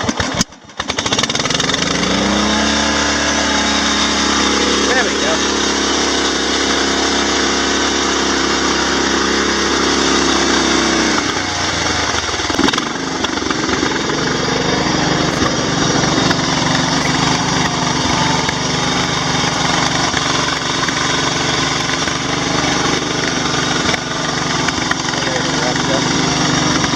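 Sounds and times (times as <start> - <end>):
lawn tractor engine running: 0.0 - 26.9.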